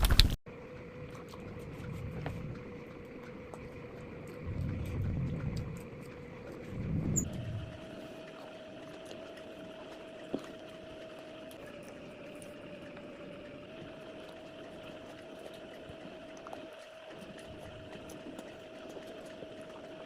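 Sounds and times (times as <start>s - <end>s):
faint steady hum: 0.0s - 20.0s
chewing with mouth clicks: 1.0s - 20.0s.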